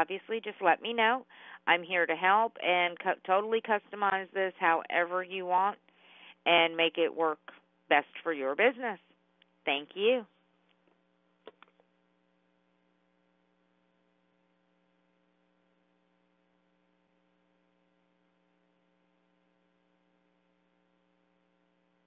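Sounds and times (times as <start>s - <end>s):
faint mains hum: 0.0s - 22.0s.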